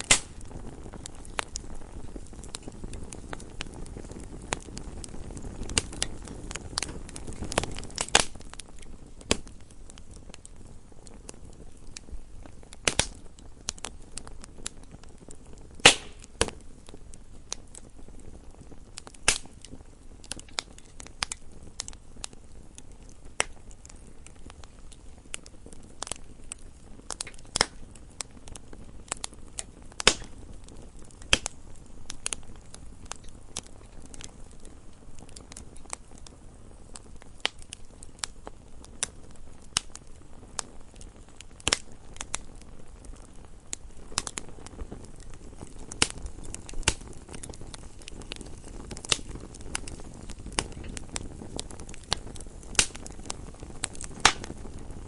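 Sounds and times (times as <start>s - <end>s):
low steady fire rumble: 0.0s - 55.0s
wood fire crackling and popping: 0.0s - 55.0s.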